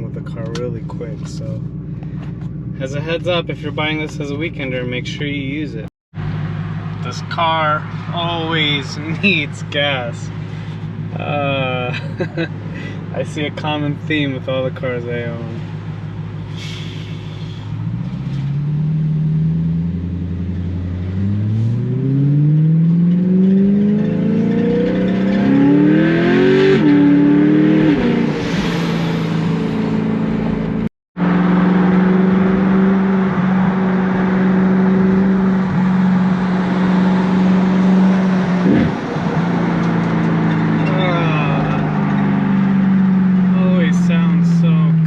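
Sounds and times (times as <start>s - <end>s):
car engine accelerating through gears: 6.2s - 45.0s.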